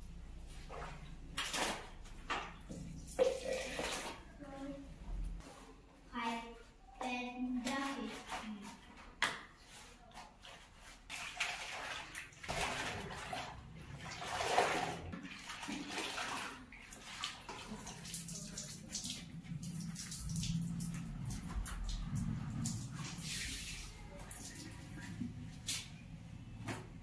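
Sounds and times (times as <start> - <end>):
water sloshing in bucket: 0.5 - 4.8, 7.6 - 26.0.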